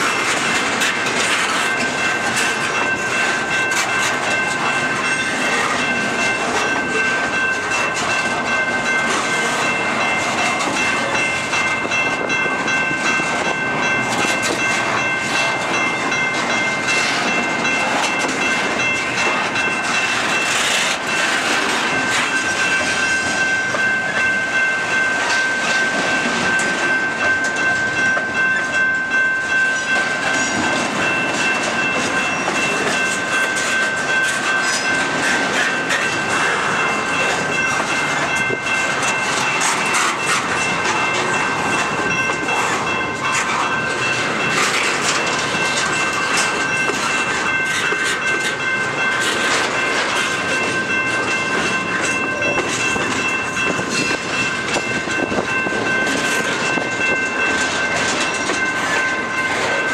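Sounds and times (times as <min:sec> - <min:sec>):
freight train rumbling and rattling: 0:00.0 - 0:59.9
wheels clicking over rail joints: 0:00.0 - 0:59.9.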